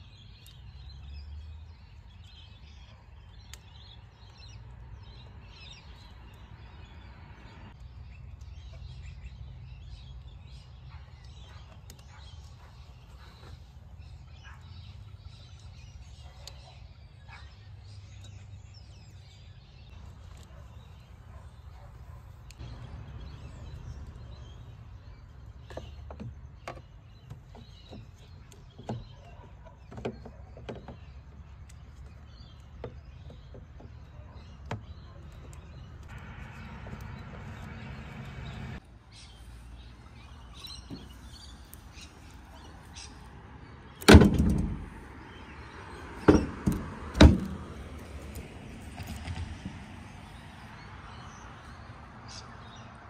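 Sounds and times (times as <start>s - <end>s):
low outdoor rumble: 0.0s - 29.8s, 31.0s - 52.4s.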